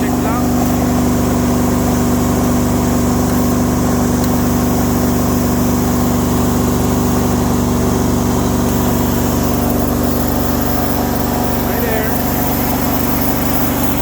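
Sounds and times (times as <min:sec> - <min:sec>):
engine humming evenly: 0:00.0 - 0:14.0.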